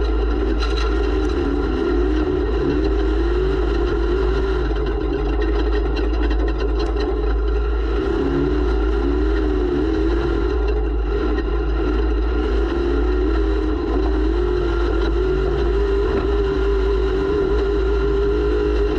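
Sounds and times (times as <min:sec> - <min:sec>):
engine drone wavering in pitch: 0:00.0 - 0:18.9.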